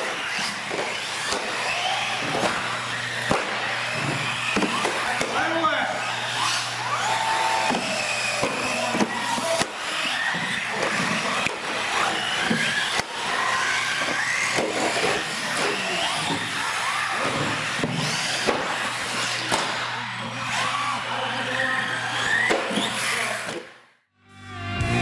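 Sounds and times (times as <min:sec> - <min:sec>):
electric motors whining: 0:00.0 - 0:23.7.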